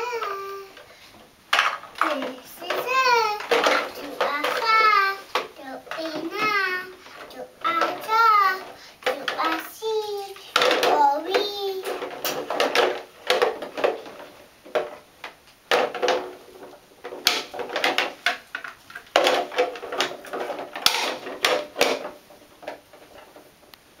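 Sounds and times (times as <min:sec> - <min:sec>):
plastic toys knocking together: 0:01.5 - 0:23.8.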